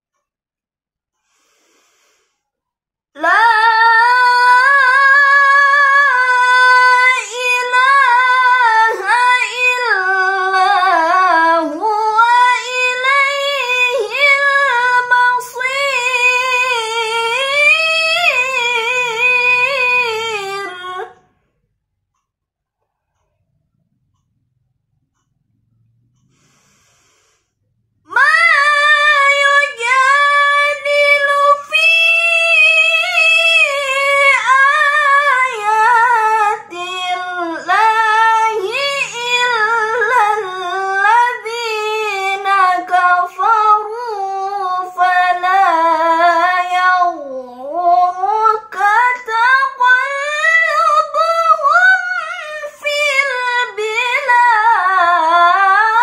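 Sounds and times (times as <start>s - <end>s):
girl reciting melodically: 3.2s - 21.2s, 28.1s - 56.0s.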